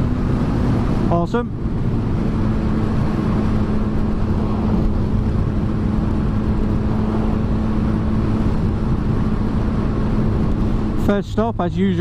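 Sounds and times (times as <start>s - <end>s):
wind noise: 0.0s - 11.0s
motorcycle engine running: 0.0s - 12.0s.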